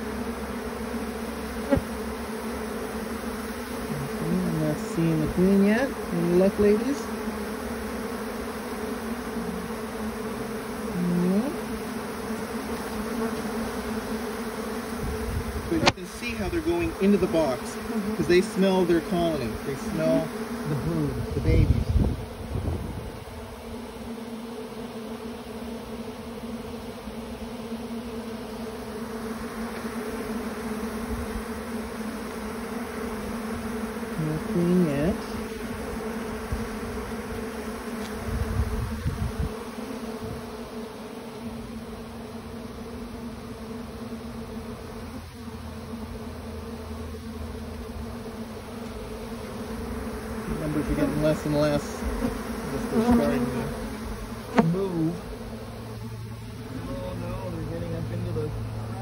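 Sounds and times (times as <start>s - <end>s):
honey bees buzzing: 0.0s - 59.0s.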